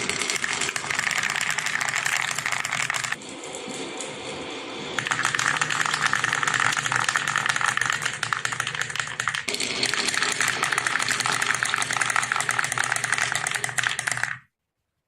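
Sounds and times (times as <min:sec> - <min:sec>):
marbles clattering down wooden run: 0:00.0 - 0:03.2, 0:05.0 - 0:14.4.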